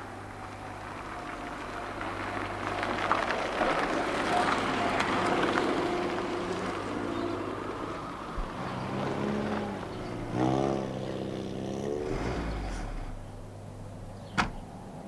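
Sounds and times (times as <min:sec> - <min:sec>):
car engine running: 0:00.0 - 0:14.3.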